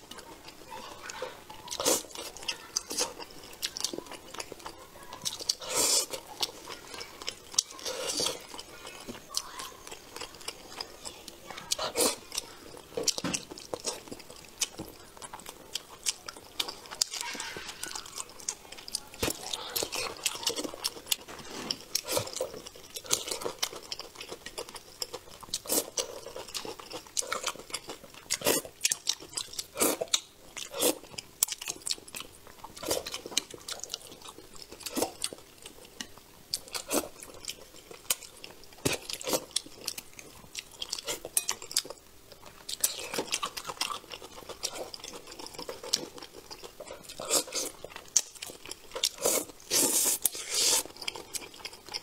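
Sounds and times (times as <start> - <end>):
chewing: 0.0 - 52.0.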